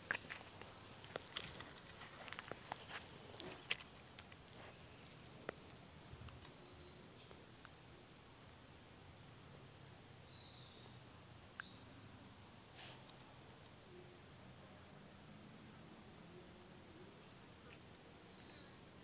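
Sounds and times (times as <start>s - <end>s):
faint high insect trill: 0.0s - 19.0s.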